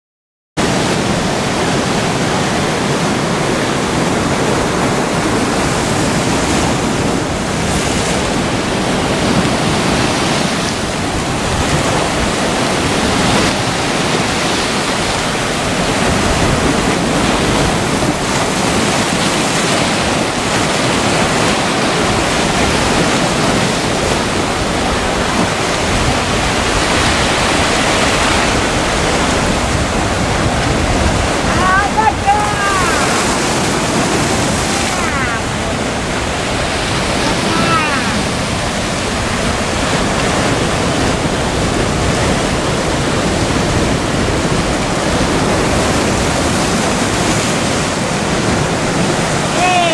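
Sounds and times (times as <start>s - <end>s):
sea surf washing over rocks: 0.6s - 49.9s.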